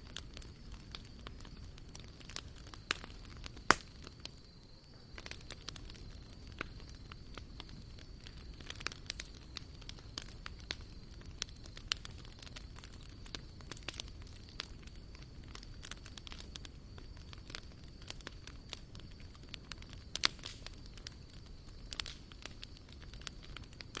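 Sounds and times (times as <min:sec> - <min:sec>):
log fire crackling and popping: 0:00.0 - 0:24.0.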